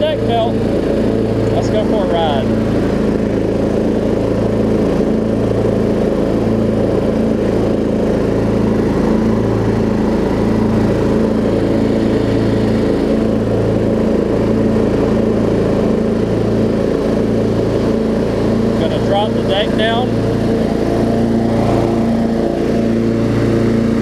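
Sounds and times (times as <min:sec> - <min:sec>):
riding mower engine running: 0:00.0 - 0:24.0.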